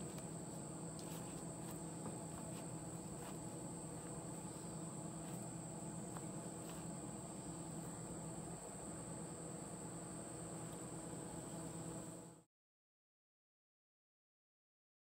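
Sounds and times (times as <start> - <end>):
insects chirring: 0.0 - 12.4.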